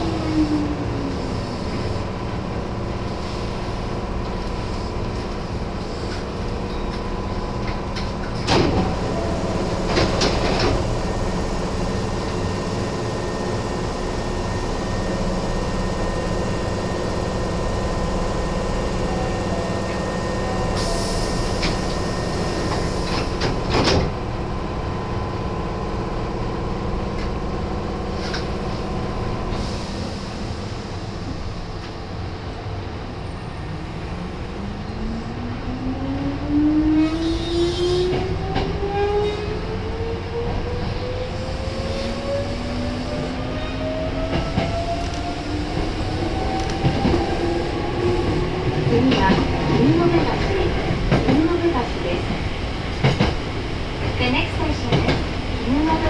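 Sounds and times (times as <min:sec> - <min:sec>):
electric train rumbling: 0:00.0 - 0:56.0.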